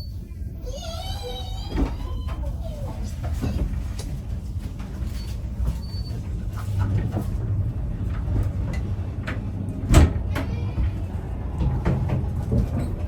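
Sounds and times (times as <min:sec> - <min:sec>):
railway carriage rumbling on track: 0:00.0 - 0:13.0.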